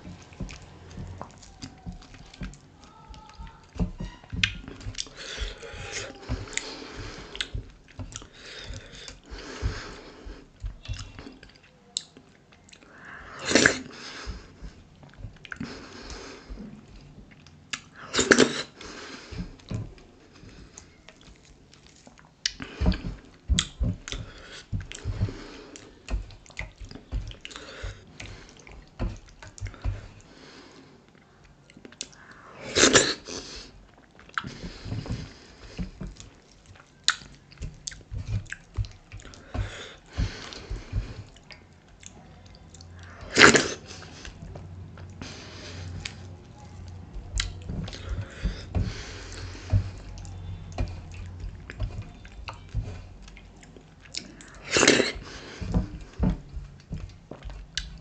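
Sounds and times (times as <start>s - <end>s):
wet chewing and lip smacking: 0.0s - 18.9s, 19.5s - 30.3s, 33.8s - 45.2s, 45.9s - 48.6s, 49.2s - 58.0s
hand kneading sticky dough: 0.0s - 58.0s.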